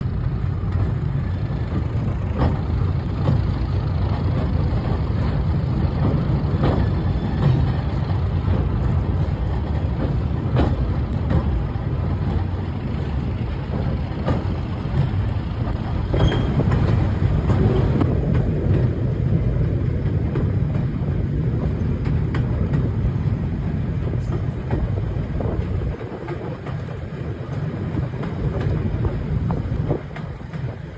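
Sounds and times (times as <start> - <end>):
diesel locomotive rumbling: 0.0 - 30.9.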